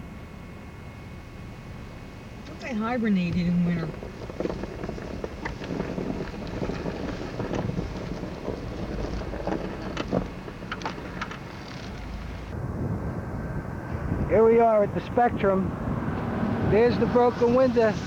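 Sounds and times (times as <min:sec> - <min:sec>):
low rumbling noise: 0:00.0 - 0:18.0
wind on microphone: 0:03.3 - 0:18.0.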